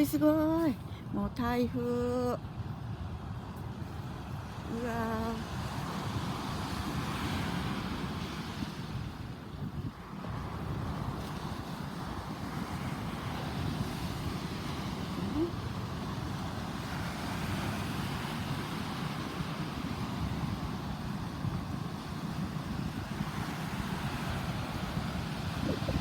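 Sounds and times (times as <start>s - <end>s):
surf roaring on shore: 0.0s - 26.0s
wind buffeting microphone: 0.0s - 26.0s.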